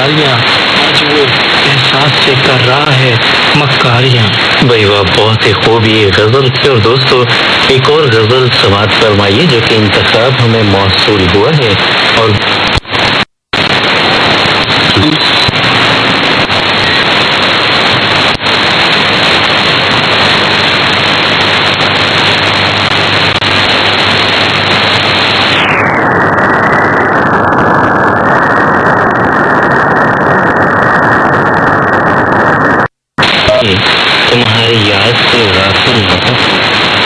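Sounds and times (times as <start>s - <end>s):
shortwave radio static and hiss: 0.0s - 37.0s.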